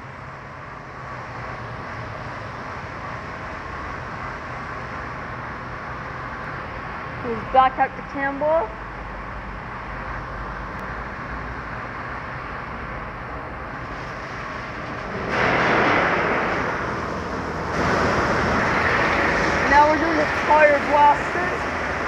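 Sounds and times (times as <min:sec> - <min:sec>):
car wash equipment humming: 0:00.0 - 0:22.0.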